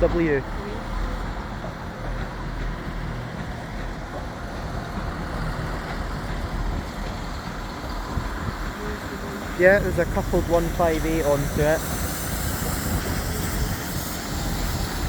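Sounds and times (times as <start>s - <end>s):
train diesel engines rumbling: 0.0s - 15.0s.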